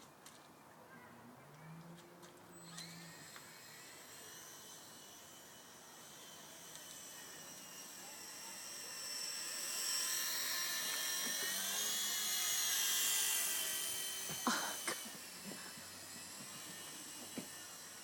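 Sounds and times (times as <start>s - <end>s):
micro helicopter motor whine: 1.6s - 18.0s.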